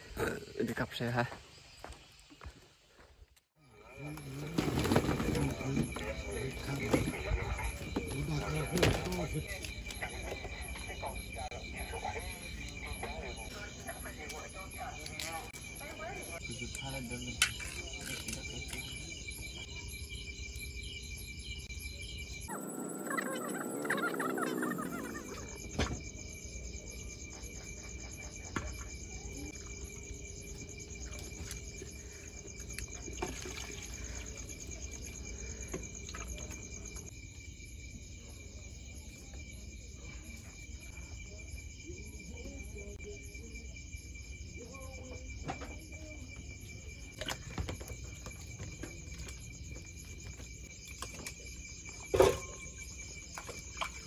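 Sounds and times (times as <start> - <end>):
night insects chirring: 0.0 - 54.0.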